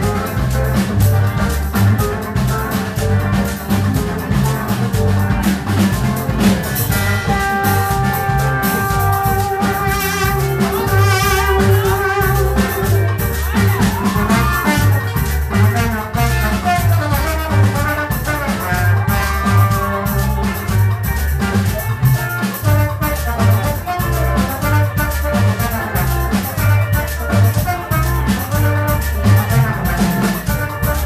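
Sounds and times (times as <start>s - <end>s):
horns playing melodic lines: 0.0s - 31.0s
live band playing upbeat music: 0.0s - 31.0s.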